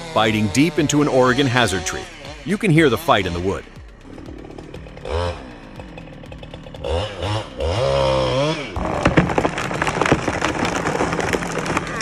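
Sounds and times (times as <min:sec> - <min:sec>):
chainsaw revving: 0:00.0 - 0:12.0
wood cracking and splitting: 0:00.0 - 0:12.0.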